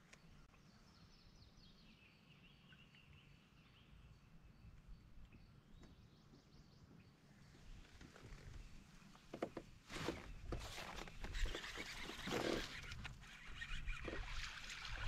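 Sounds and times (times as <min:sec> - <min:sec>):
songbird chirping: 0:00.0 - 0:14.4.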